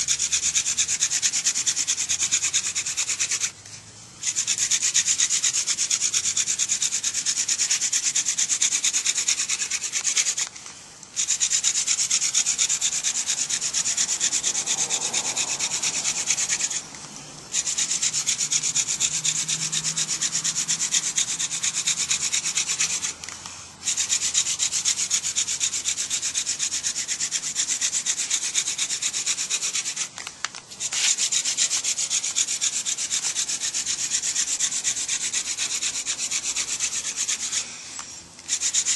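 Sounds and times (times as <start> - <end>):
spindle rasping in wooden hearth: 0.0 - 38.9.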